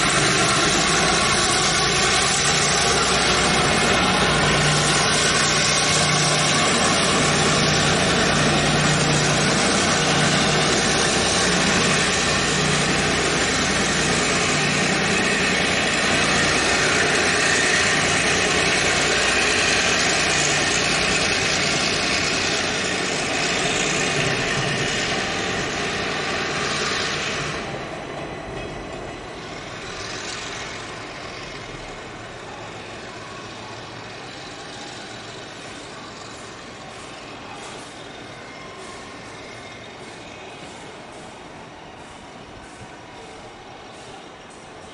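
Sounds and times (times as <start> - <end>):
diesel locomotive engine running: 0.0 - 44.9
train rolling on rails: 0.0 - 44.9.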